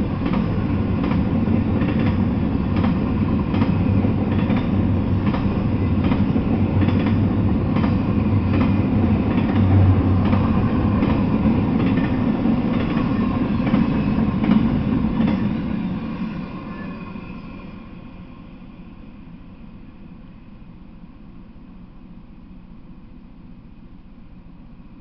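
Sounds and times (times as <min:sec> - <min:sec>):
freight train wheels rumbling: 0:00.0 - 0:21.4.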